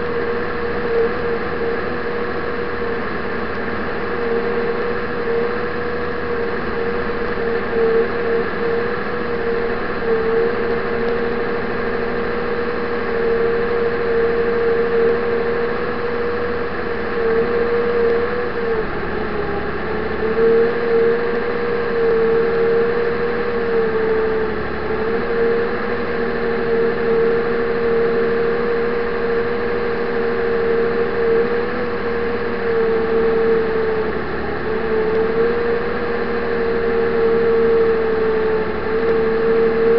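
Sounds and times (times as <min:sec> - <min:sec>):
snow vehicle engine running: 0:00.0 - 0:39.9
steady whine: 0:00.0 - 0:39.9.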